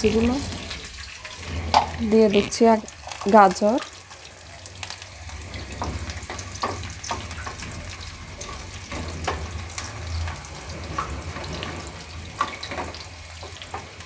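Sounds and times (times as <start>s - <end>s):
wooden spatula scraping a pan: 0.0s - 3.2s, 5.2s - 14.0s
vegetables sizzling in oil: 0.0s - 14.0s.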